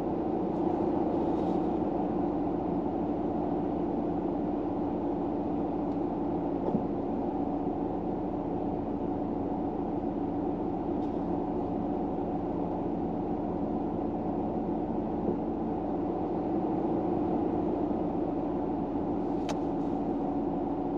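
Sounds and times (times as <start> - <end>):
low hum inside car cabin: 0.0 - 20.9.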